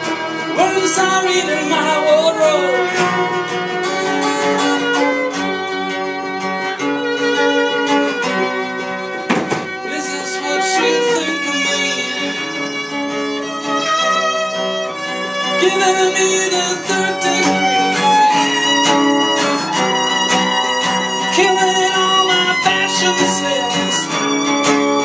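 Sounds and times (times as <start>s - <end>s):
strummed acoustic guitar: 0.0s - 25.0s
violin bowing a melody: 0.0s - 25.0s.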